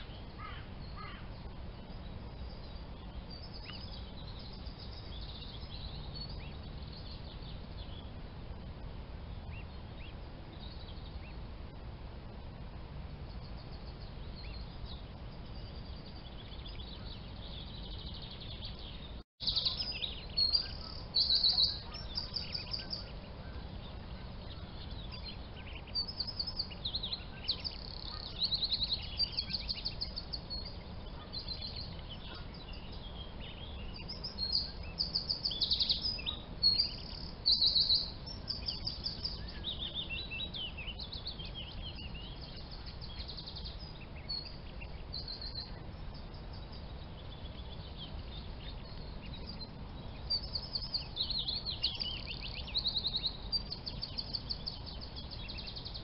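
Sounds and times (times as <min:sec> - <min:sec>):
birds chirping trills: 0:00.0 - 0:56.0
low background hiss: 0:00.0 - 0:56.0.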